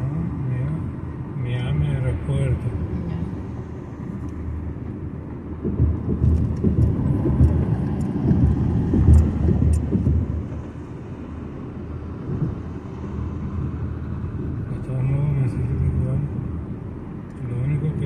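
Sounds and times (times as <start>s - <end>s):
car road noise rumble: 0.0s - 18.0s.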